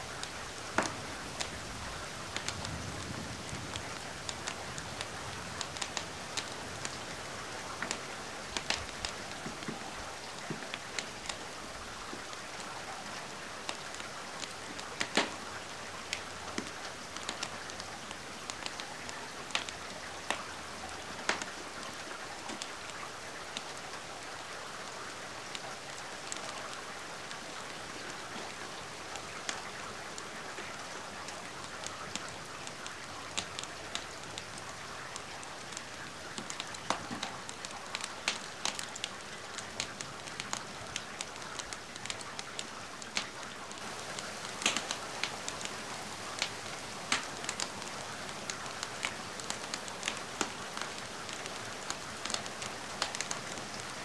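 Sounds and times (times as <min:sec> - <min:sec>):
rain falling: 0:00.0 - 0:54.0
wood fire crackling: 0:00.1 - 0:54.0.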